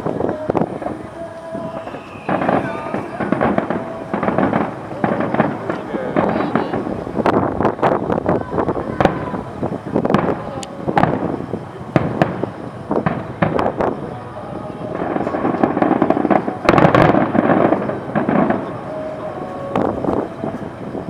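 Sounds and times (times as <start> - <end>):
fireworks bursting: 0.0 - 21.0
fireworks crackling: 0.0 - 21.0.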